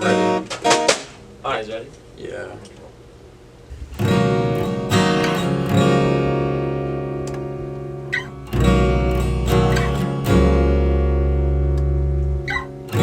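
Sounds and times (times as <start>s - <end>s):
acoustic guitar strumming: 0.0s - 1.3s, 3.8s - 13.0s.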